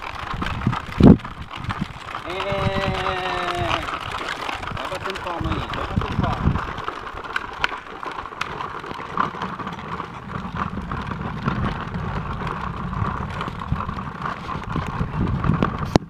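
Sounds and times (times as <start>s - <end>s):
plastic wheels rattling on pavement: 0.0s - 16.0s.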